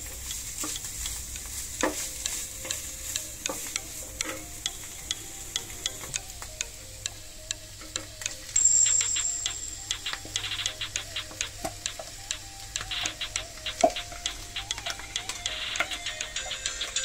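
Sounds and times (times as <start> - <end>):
light sizzle: 0.0 - 17.0
spatula clicking against pan: 0.1 - 17.0.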